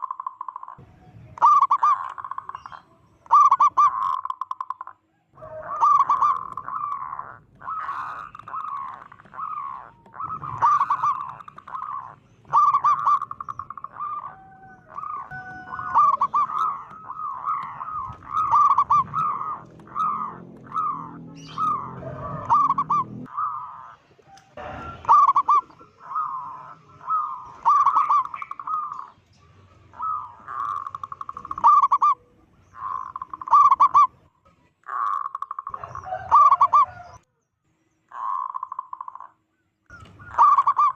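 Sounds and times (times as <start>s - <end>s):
dove cooing: 0.0s - 34.3s, 34.9s - 37.2s, 38.1s - 39.3s, 39.9s - 40.9s.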